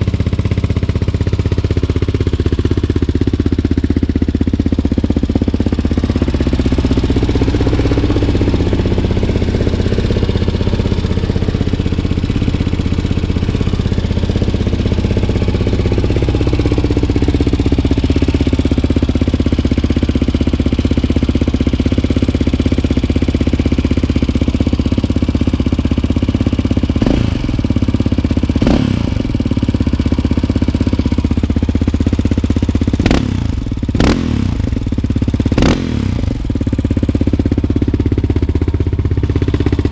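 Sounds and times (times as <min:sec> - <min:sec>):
quad engine idling and revving: 0:00.0 - 0:39.9.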